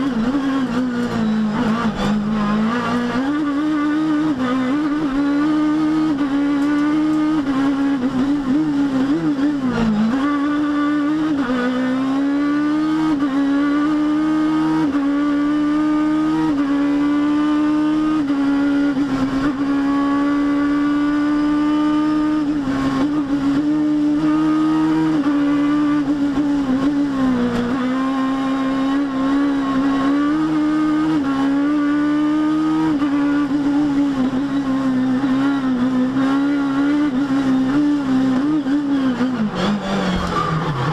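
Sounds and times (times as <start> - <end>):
car engine at high revs: 0.0 - 40.9.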